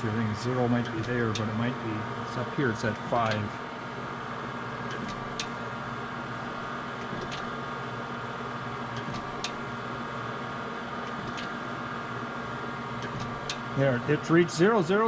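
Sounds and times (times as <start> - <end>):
grinder motor humming: 0.0 - 15.0.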